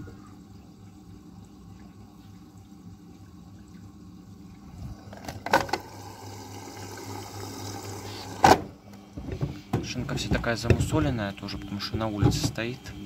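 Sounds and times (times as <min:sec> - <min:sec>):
washing machine hum: 0:00.0 - 0:13.0
water sloshing in washing machine: 0:00.0 - 0:13.0.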